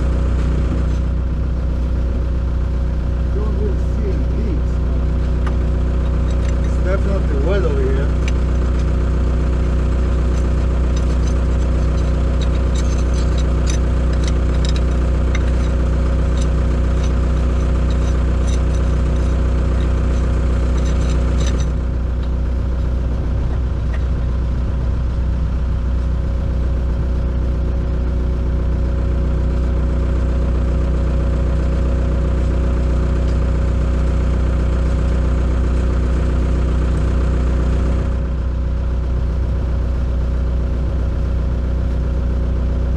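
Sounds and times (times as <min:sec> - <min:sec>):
excavator diesel engine idling: 0:00.0 - 0:42.9.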